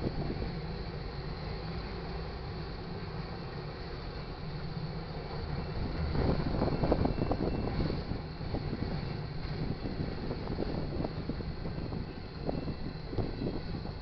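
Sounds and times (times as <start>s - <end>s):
steel wheels rumbling on rails: 0.0s - 14.0s.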